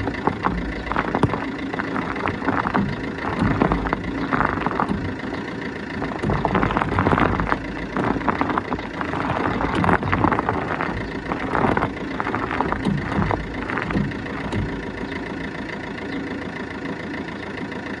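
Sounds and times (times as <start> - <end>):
suspension clunks and creaks: 0.0 - 16.4
diesel engine idling: 0.0 - 18.0.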